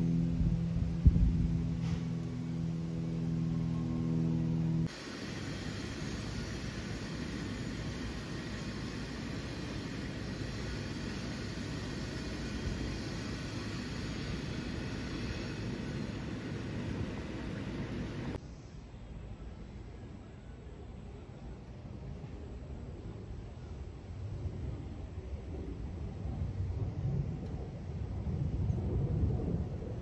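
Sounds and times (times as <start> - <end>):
jet airliner passing overhead: 0.0 - 18.4, 22.9 - 30.0
low steady hum: 0.0 - 30.0.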